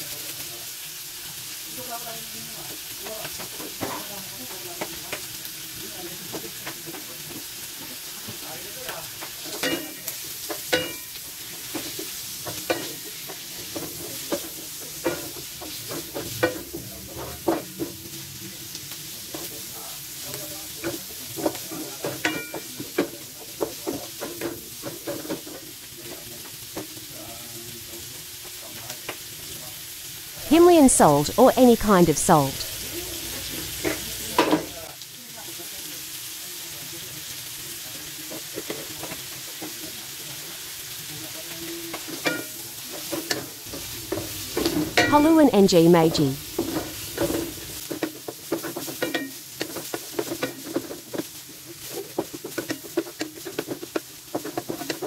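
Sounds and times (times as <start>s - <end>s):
meat sizzling in a wok: 0.0s - 30.4s, 32.6s - 45.1s, 46.4s - 55.0s.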